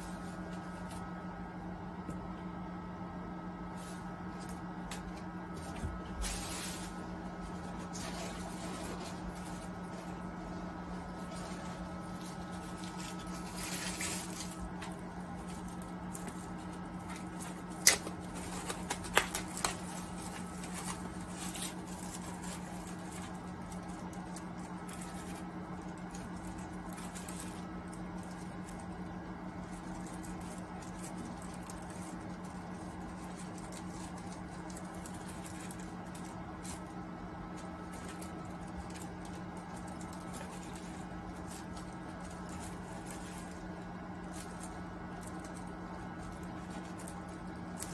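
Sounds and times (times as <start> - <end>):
microwave oven humming: 0.0 - 47.9.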